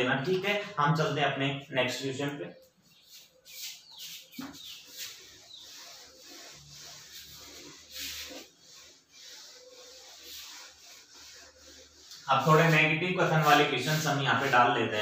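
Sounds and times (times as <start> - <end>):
duster rubbing on whiteboard: 2.9 - 15.0.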